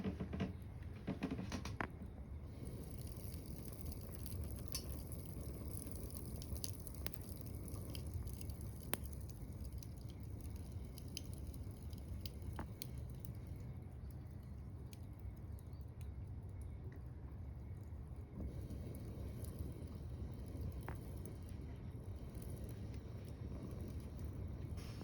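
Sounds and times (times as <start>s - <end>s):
firewood crackling and popping: 0.0s - 25.0s
stove fire low rumble: 0.0s - 25.0s.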